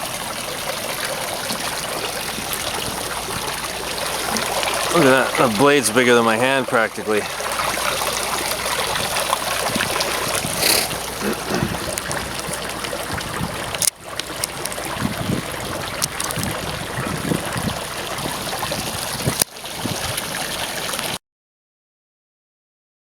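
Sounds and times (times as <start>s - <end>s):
water trickling and splashing: 0.0s - 21.2s.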